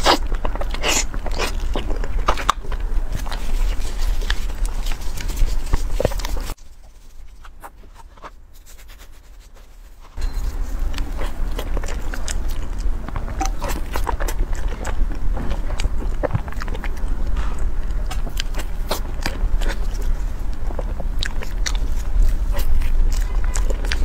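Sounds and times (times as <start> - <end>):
close chewing with mouth clicks: 0.0 - 24.0.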